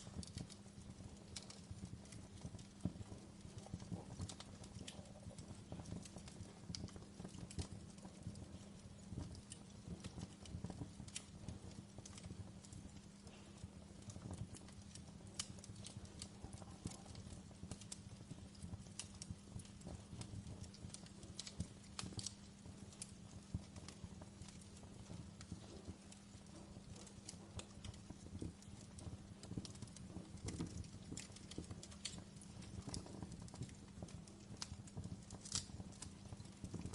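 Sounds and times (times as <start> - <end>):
low rumble of flames: 0.0 - 36.9
wood fire crackling and popping: 0.0 - 36.9.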